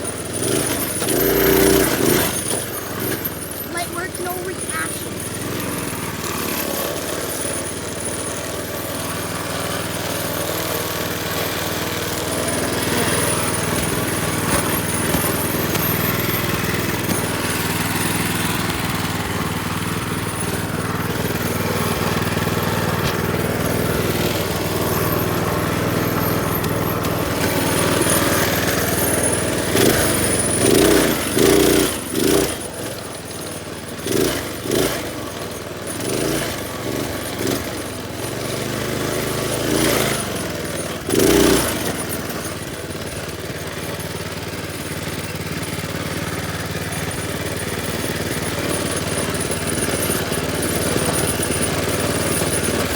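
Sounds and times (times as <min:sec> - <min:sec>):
minibike engine revving: 0:00.0 - 0:52.9.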